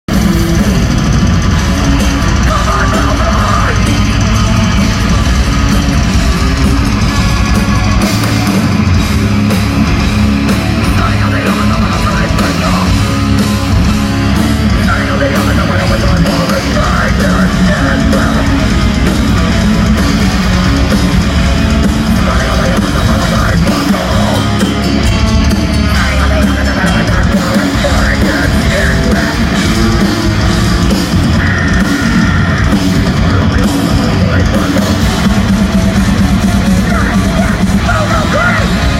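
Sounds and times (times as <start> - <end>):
heavy metal band playing live: 0.0 - 38.9.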